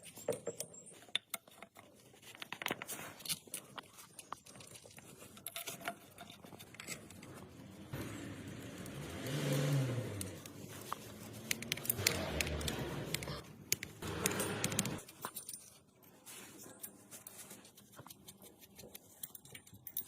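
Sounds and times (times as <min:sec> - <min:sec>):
tools and metal parts clicking: 0:00.0 - 0:09.2, 0:10.1 - 0:17.4, 0:18.0 - 0:20.0.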